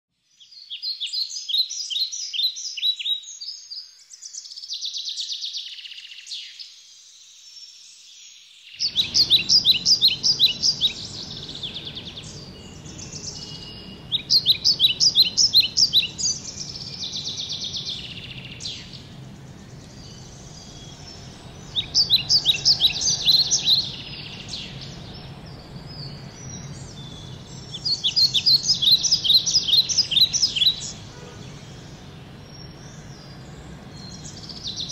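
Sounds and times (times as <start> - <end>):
faint low background noise: 0.1 - 34.9
songbird singing: 0.2 - 34.9.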